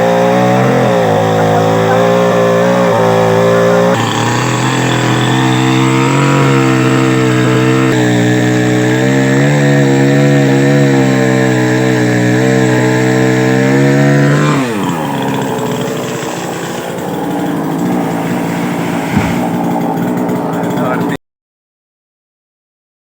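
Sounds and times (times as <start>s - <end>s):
chainsaw running: 0.0s - 21.2s.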